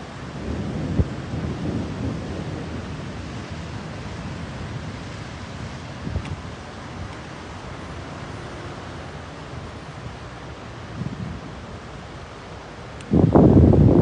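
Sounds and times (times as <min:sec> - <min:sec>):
floodwater rushing: 0:02.6 - 0:14.0.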